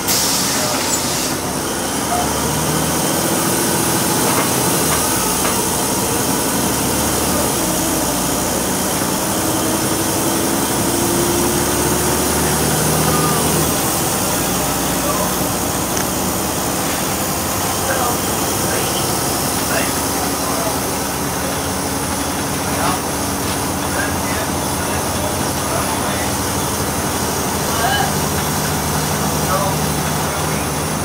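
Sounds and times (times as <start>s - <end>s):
bus diesel engine running: 0.0s - 31.0s
road and body rumble: 0.0s - 31.0s.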